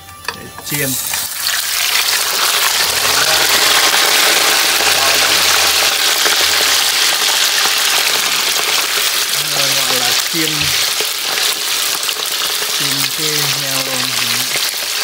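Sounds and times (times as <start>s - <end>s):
chopsticks stirring in wok: 0.6s - 15.0s
meat sizzling in hot oil: 0.6s - 15.0s.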